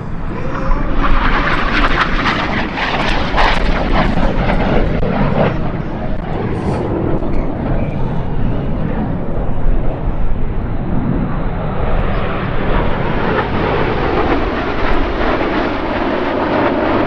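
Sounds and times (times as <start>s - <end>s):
jets flying past: 0.0s - 17.0s.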